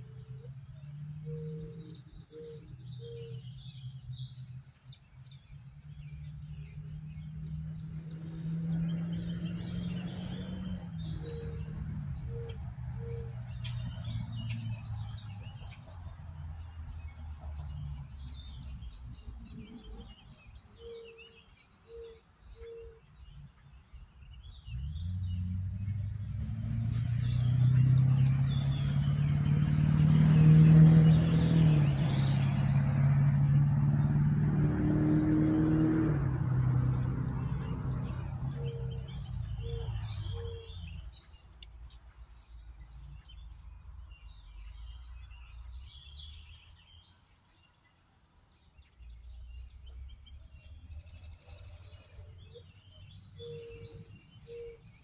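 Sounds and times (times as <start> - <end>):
motor vehicle approaching: 0.0 - 22.0, 22.6 - 47.2, 48.9 - 55.0
distant traffic hum: 0.0 - 55.0
small birds chirping: 0.0 - 55.0.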